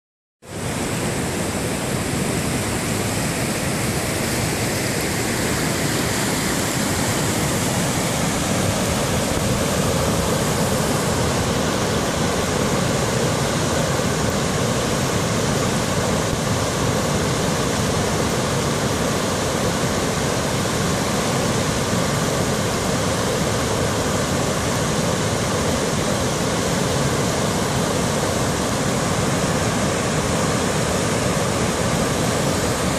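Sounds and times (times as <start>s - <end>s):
waterfall rushing water: 0.4s - 32.9s.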